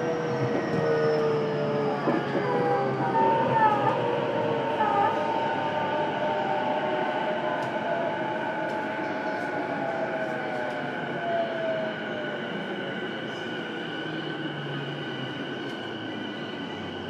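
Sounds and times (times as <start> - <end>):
train high whine and hum: 0.0 - 17.0.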